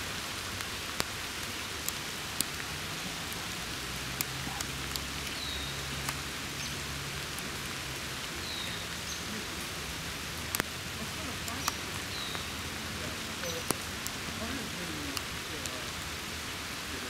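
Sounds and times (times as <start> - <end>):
raindrop ticks: 0.0 - 17.0
steady rain: 0.0 - 17.0.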